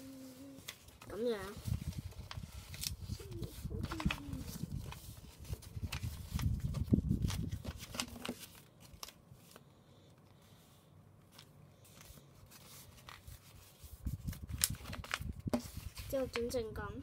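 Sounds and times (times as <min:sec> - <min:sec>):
paper rustling and crinkling: 0:00.0 - 0:09.7, 0:11.2 - 0:16.9.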